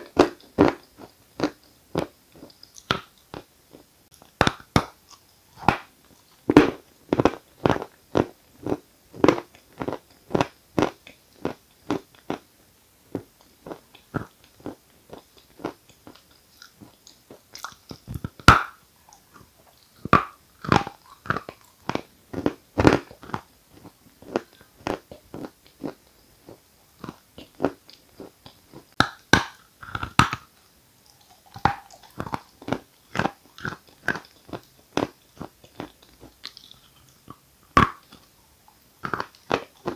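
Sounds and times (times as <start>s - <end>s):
quiet chewing: 0.0s - 12.5s, 13.1s - 39.9s.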